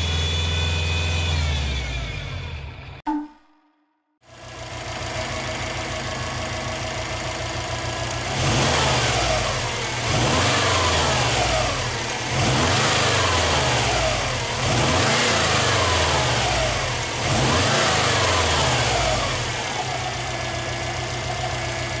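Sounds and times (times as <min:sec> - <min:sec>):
engine revving: 0:00.0 - 0:03.0, 0:04.3 - 0:22.0
car engine idling: 0:04.3 - 0:22.0.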